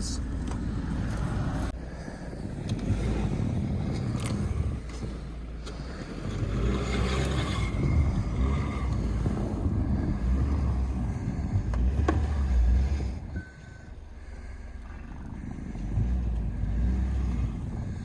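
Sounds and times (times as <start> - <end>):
vehicle driving through snow: 0.1 - 18.0.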